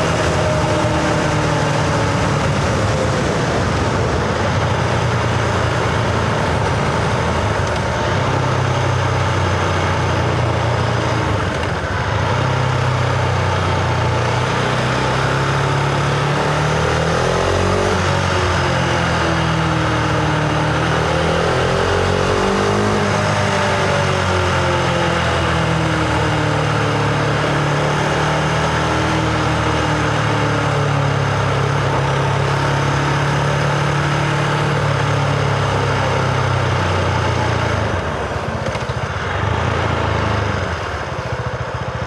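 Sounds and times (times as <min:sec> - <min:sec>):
motorcycle engine running: 0:00.0 - 0:42.0
wind and road noise: 0:00.0 - 0:42.0.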